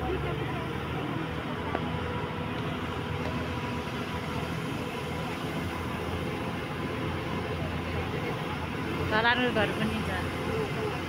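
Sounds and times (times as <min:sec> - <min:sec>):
road noise: 0:00.0 - 0:11.0
vehicle engine drone: 0:00.0 - 0:11.0.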